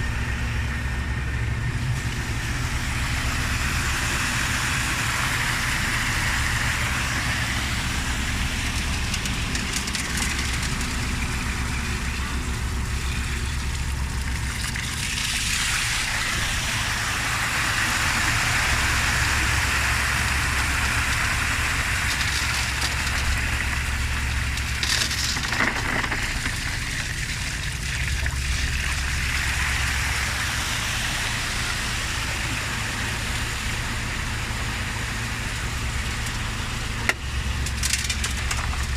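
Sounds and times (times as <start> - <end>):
concrete pouring: 0.0 - 38.9
truck diesel engine running: 0.0 - 38.9.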